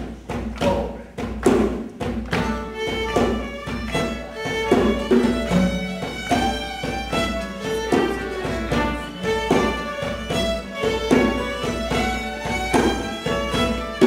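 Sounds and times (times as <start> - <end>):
thumps on stage floor: 0.0 - 14.0
solo fiddle playing lively tune: 2.3 - 14.0.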